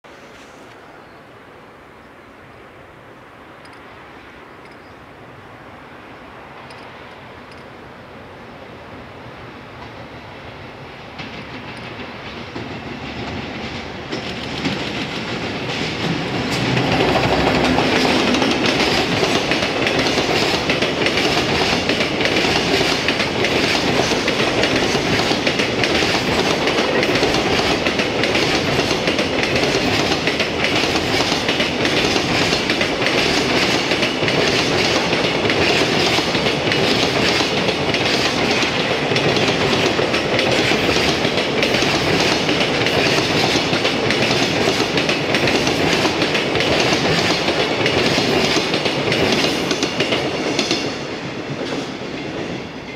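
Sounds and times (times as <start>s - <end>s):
freight train wheels rattling on rails: 9.3s - 52.9s.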